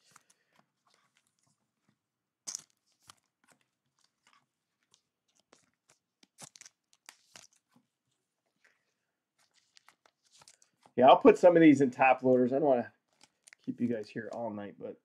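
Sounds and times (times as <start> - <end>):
plastic card sleeves crinkling: 0.0 - 14.6.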